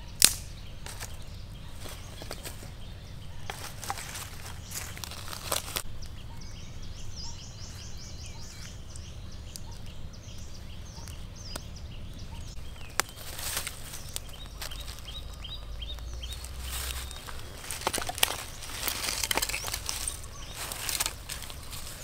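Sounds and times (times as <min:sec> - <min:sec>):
birds chirping: 0:00.0 - 0:22.0
low outdoor rumble: 0:00.0 - 0:22.0
dry sticks clicking and rustling: 0:00.2 - 0:06.2, 0:08.6 - 0:22.0.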